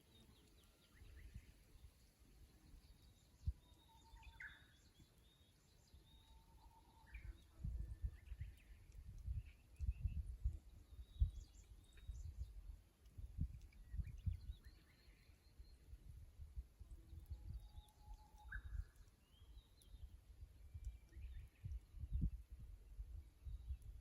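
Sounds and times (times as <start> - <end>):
bush warbler whistled song: 0.0 - 16.2, 16.8 - 22.4, 23.4 - 24.0
faint small bird chirps: 0.0 - 24.0.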